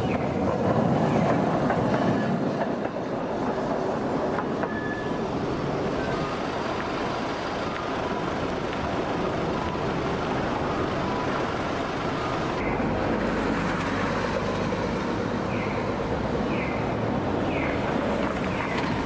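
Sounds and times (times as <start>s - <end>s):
bus engine hum: 3.0s - 19.0s
cars passing: 3.2s - 19.0s.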